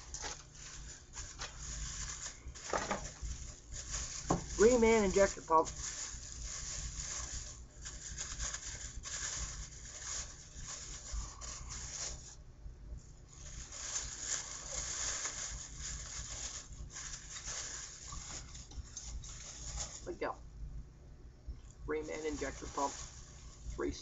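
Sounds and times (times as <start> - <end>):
plastic bag rustling: 0.0 - 12.4, 13.1 - 20.4, 21.8 - 24.0.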